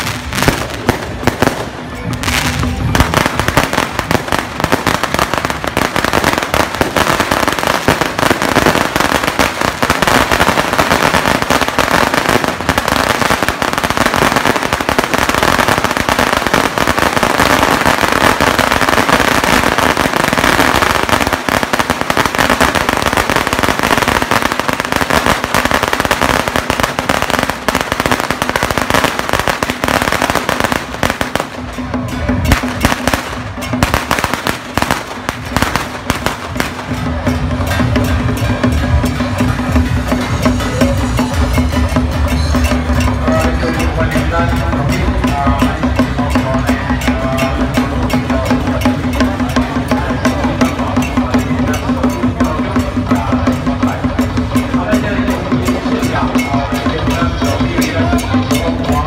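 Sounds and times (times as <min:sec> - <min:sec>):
firecrackers crackling: 0:00.0 - 0:59.0.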